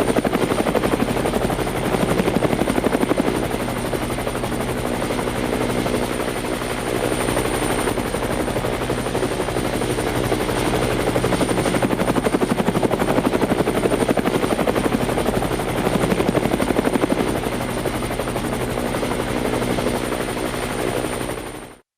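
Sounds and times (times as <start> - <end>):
helicopter engine hum: 0.0 - 21.8
helicopter rotor chop: 0.0 - 21.8.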